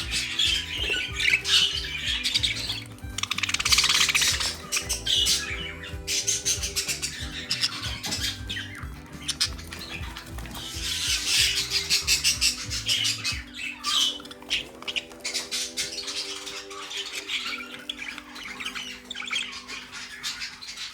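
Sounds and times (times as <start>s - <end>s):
budgerigars chattering and squawking: 0.0s - 20.9s
soft background music: 0.0s - 20.9s.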